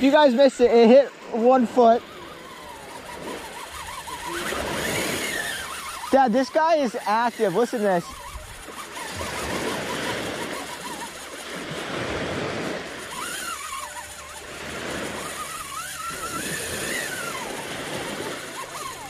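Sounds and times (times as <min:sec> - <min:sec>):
fishing reel drag buzzing: 0:00.0 - 0:19.0.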